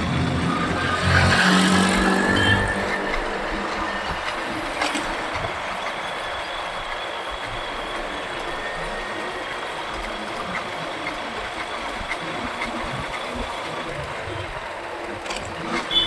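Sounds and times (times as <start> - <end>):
motorcycle engine and road noise: 0.0 - 16.0.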